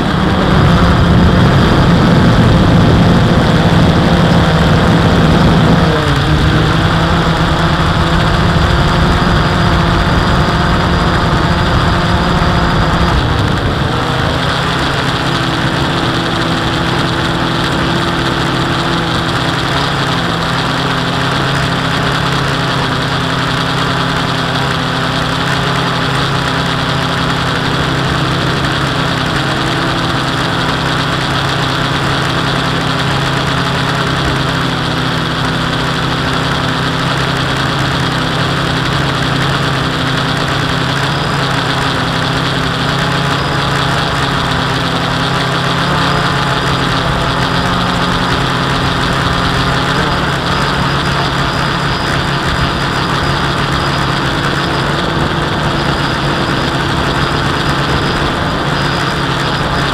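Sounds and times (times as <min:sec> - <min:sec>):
quadcopter propellers droning: 0:00.0 - 0:59.9.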